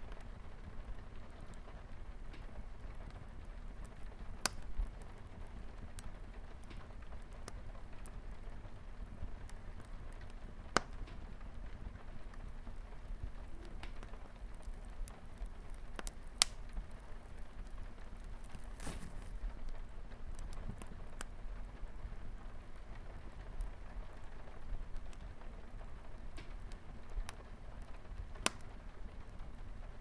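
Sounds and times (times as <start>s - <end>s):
rain pattering on a window: 0.0s - 30.0s
wood fire crackling: 0.0s - 30.0s.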